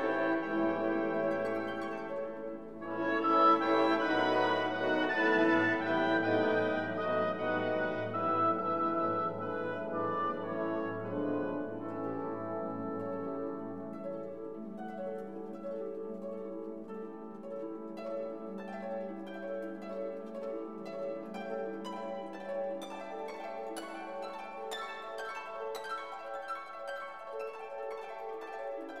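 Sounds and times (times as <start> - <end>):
plucked instrumental notes: 0.0 - 29.0.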